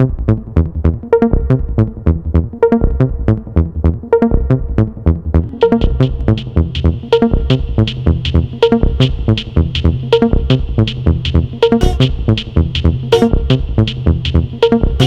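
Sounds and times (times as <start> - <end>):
electronic music with drum-machine beat: 0.0 - 15.0.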